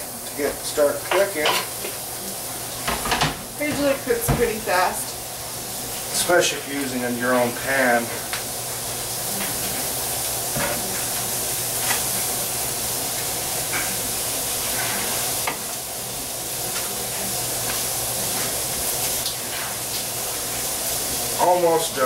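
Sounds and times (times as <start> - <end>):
chicken frying with sizzle: 0.0 - 22.0.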